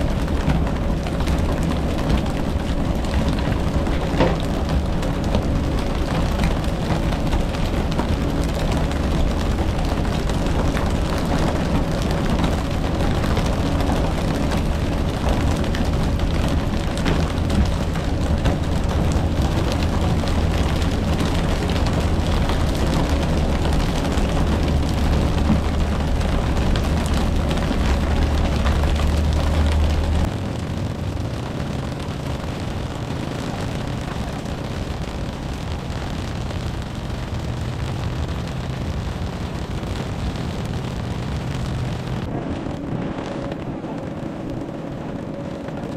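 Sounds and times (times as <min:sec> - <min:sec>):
boat engine drone: 0:00.0 - 0:45.9
rushing water: 0:00.0 - 0:45.9
wind: 0:00.0 - 0:45.9.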